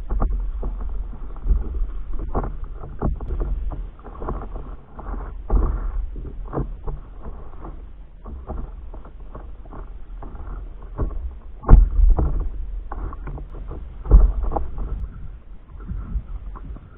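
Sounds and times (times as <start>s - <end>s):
water splashing against paddleboard: 0.0s - 16.9s
wind rumble on microphone: 0.0s - 16.9s.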